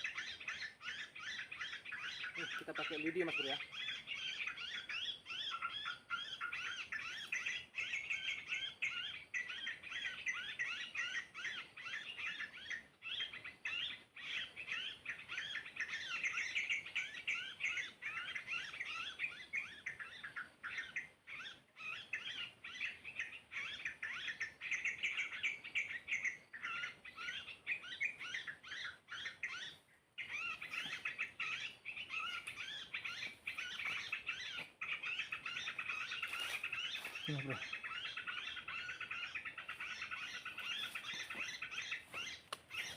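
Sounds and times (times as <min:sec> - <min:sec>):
birds chirping and twittering: 0:00.0 - 0:42.9.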